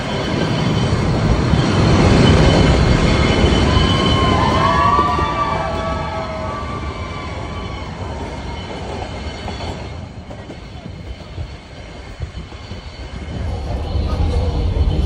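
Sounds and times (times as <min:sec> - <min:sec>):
train wheels clattering on rails: 0:00.0 - 0:15.0
wheel squeal: 0:00.0 - 0:15.0.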